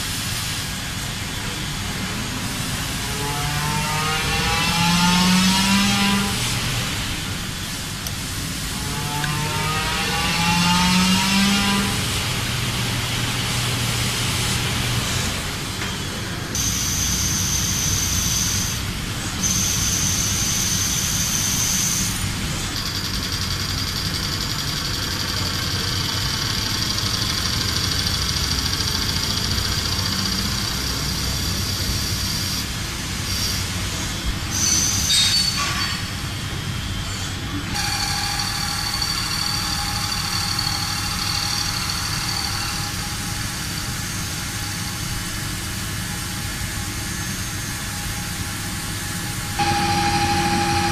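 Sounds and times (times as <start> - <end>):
metalworking machinery running: 0.0 - 50.9.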